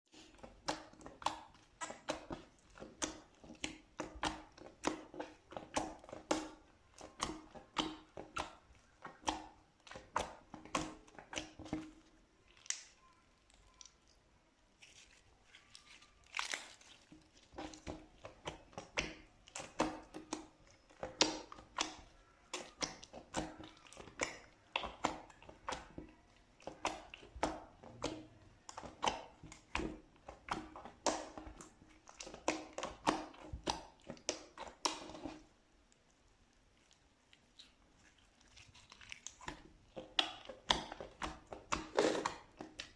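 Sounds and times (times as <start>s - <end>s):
slime squished by hand: 0.1s - 42.9s.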